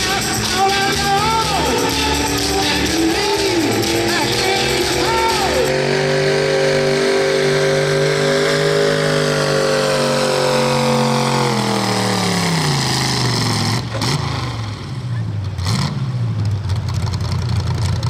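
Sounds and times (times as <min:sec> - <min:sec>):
truck engine running under load: 0:01.5 - 0:18.0.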